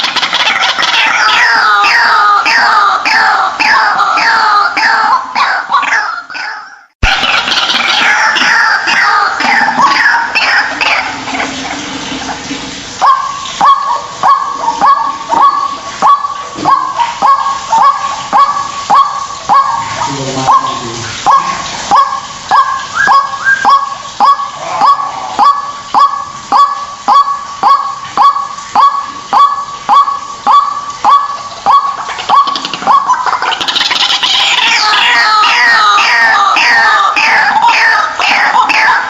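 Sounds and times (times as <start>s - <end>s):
waterhen honking calls: 0.0s - 39.0s.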